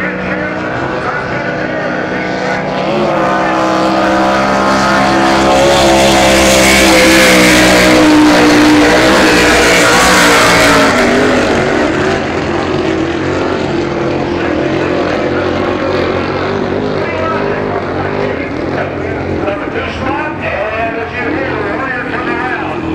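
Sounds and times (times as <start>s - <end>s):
boat engines running flat out: 0.0s - 22.9s.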